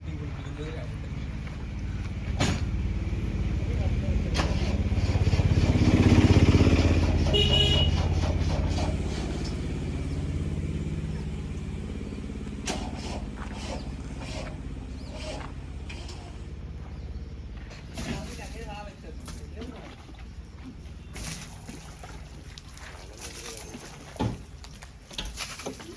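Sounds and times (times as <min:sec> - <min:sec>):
heavy diesel engine under load: 0:00.0 - 0:25.9.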